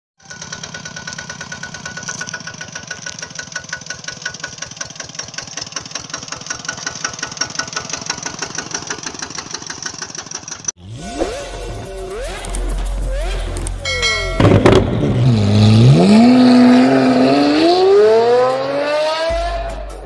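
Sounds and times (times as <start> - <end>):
small engine chugging: 0.2 - 16.8.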